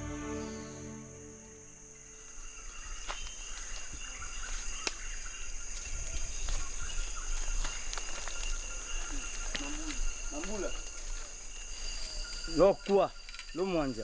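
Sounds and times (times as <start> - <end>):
insects humming: 0.0 - 14.0.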